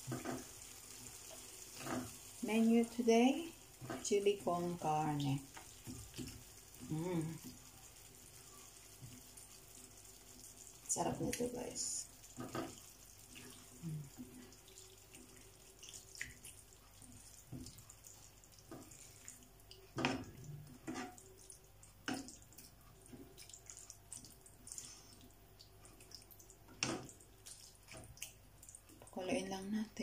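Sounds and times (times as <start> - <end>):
spatula stirring in frying pan: 0.0 - 11.5, 12.1 - 28.8.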